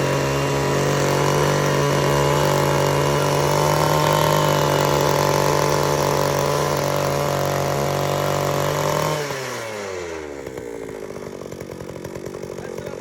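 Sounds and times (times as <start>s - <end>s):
small two-stroke engine running: 0.0s - 13.0s.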